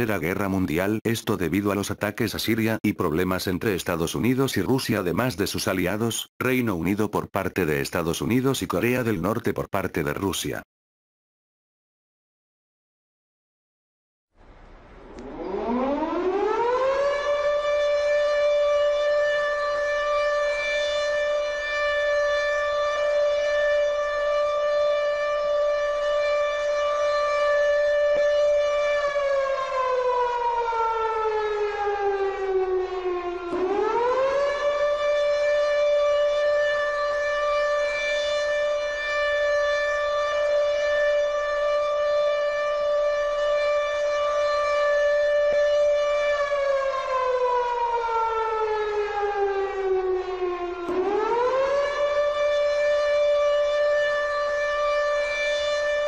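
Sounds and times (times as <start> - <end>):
air raid siren: 0.0 - 6.2, 14.4 - 56.0.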